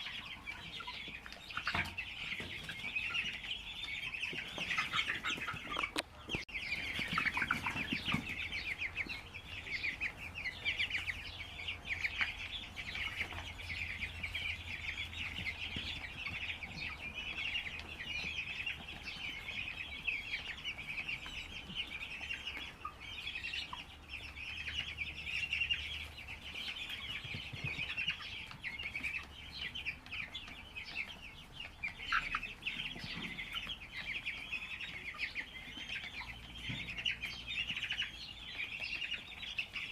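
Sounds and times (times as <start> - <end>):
chickens chirping and peeping: 0.0 - 39.9.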